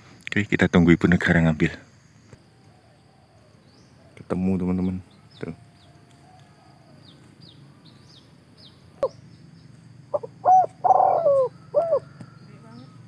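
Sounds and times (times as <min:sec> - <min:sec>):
faint high chirps: 0:01.9 - 0:13.0
bird calling: 0:02.2 - 0:13.0.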